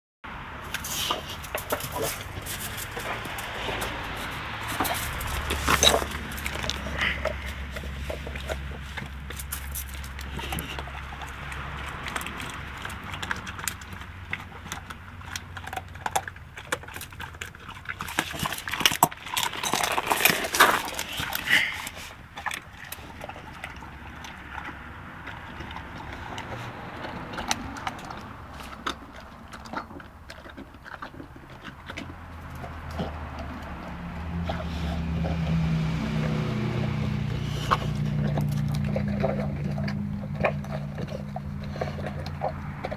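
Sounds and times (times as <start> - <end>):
dog chewing wet meat: 0.6 - 42.9.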